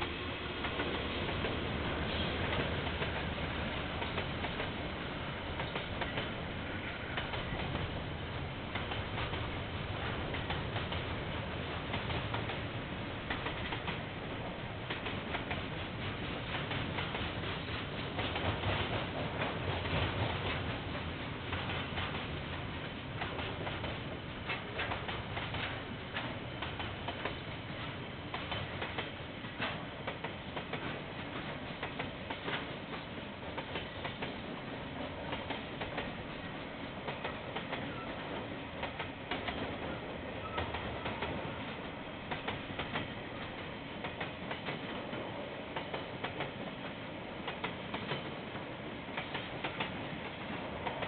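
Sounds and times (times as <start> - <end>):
train rumble: 0.0 - 51.0
train wheels clicking over rail joints: 0.0 - 51.0.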